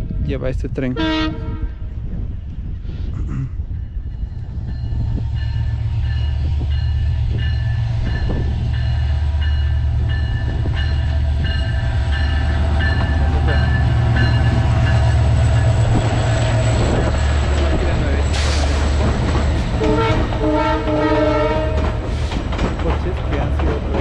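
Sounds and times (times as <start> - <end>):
freight train rumble: 0.0 - 24.0.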